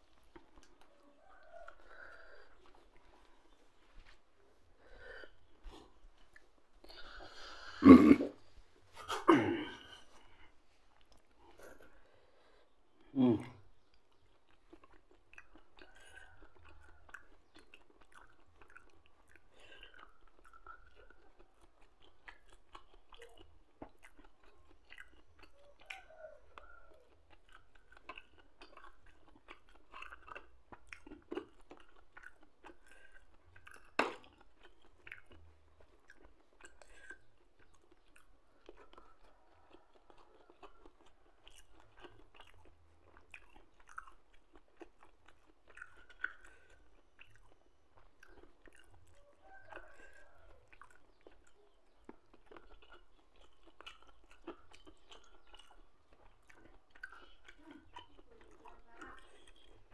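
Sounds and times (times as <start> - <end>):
small mouth clicks and crunches: 0.0 - 59.9
soft wet chewing: 0.0 - 59.9.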